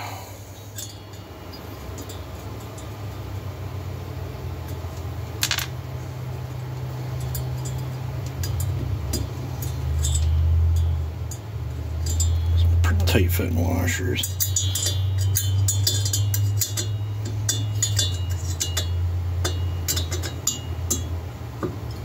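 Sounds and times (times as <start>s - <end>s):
low machine hum: 0.0s - 22.0s
metal clinks of washers and bolts: 0.6s - 3.2s, 4.6s - 5.8s, 6.7s - 21.2s.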